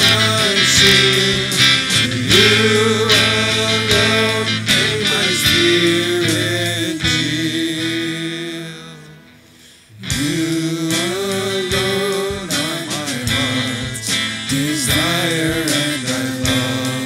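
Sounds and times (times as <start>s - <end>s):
guitar-led accompaniment: 0.0s - 17.0s
worship singing: 0.0s - 17.0s.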